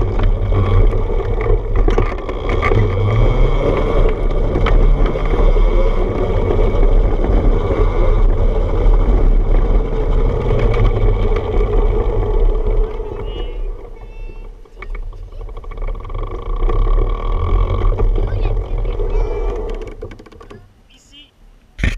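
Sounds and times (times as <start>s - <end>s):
wheels rumbling on wooden planks: 0.0s - 21.2s.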